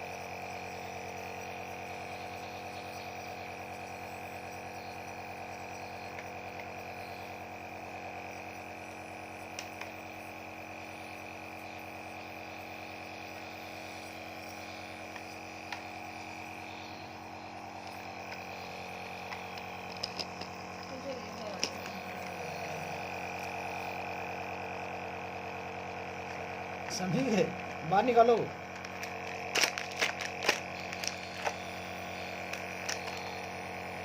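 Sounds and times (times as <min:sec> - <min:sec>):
nebulizer electric hum: 0:00.0 - 0:34.0.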